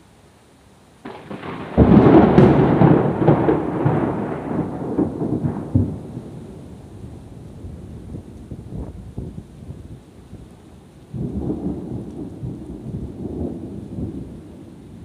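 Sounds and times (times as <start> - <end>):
thunderclap crackle and rumble: 1.0 - 15.0.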